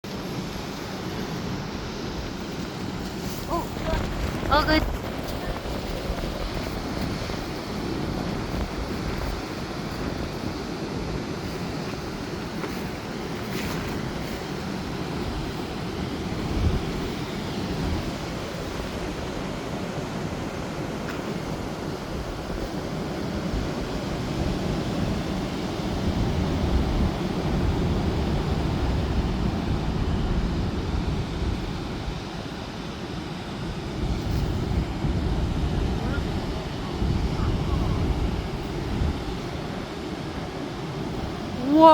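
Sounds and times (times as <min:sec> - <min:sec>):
heavy surf breaking: 0:00.0 - 0:41.9
wind buffeting microphone: 0:00.0 - 0:41.9.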